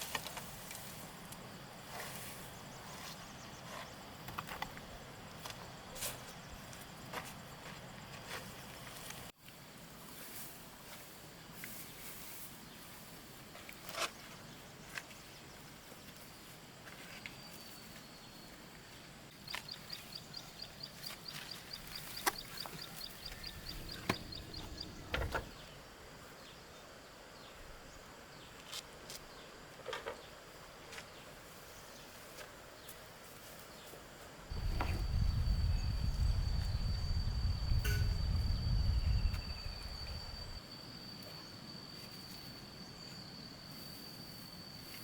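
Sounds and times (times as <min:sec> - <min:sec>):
quiet outdoor ambience: 0:00.0 - 0:45.0.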